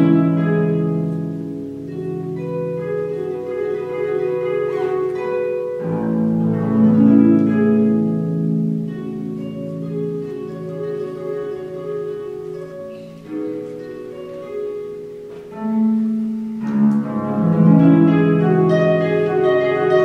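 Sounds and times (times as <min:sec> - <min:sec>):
solo harp playing: 0:00.0 - 0:20.0.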